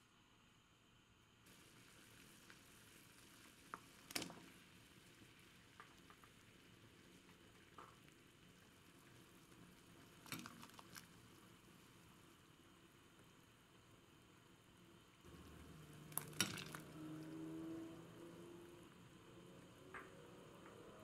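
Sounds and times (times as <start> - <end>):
food sizzling in a pan: 1.5 - 19.8.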